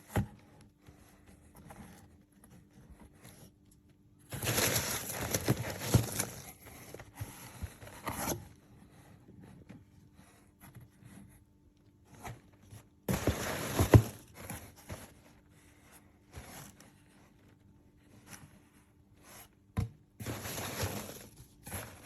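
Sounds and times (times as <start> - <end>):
packaging rustling and scraping: 0.3 - 9.7, 12.1 - 18.6, 19.3 - 22.0.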